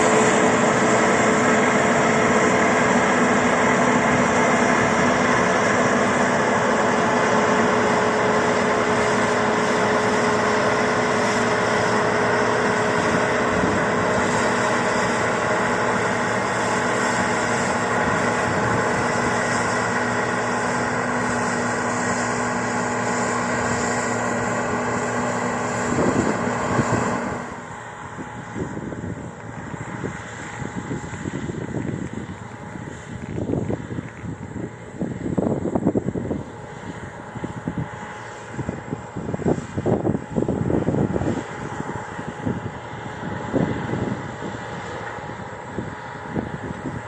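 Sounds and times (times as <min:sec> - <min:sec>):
combine harvester drone: 0:00.0 - 0:47.0.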